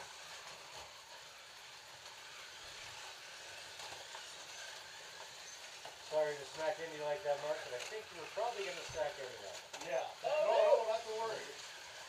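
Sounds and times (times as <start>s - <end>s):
slot car motors whirring: 0.0s - 12.0s.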